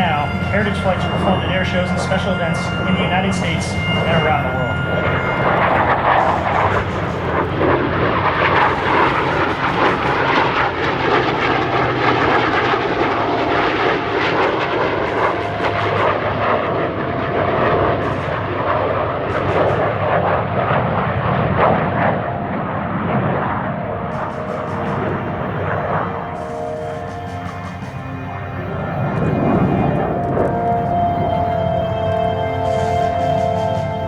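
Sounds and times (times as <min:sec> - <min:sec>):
military aircraft engine noise: 0:00.0 - 0:34.0.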